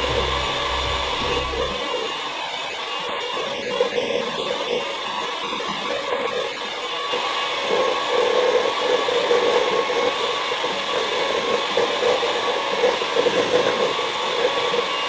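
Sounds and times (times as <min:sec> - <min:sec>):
electric hand mixer whirring: 0:00.0 - 0:15.0.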